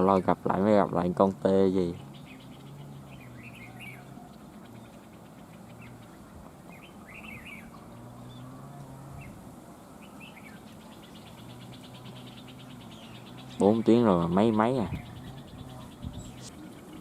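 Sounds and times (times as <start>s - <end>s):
birds chirping calls: 0.0s - 17.0s.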